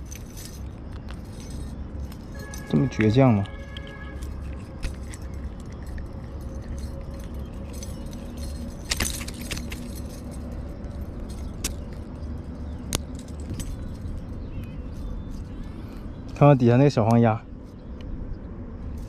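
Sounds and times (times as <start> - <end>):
metal fishing tackle clinking: 0.0 - 15.4
steady low rumble: 0.0 - 19.0.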